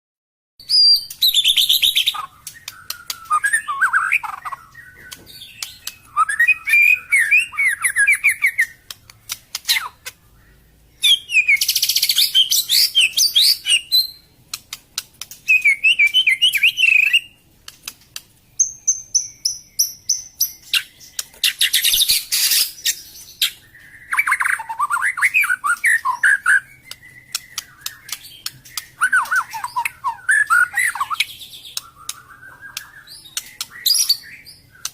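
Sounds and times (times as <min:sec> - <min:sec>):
bird singing whistles and trills: 0:00.6 - 0:14.5, 0:15.3 - 0:17.4, 0:18.4 - 0:34.9.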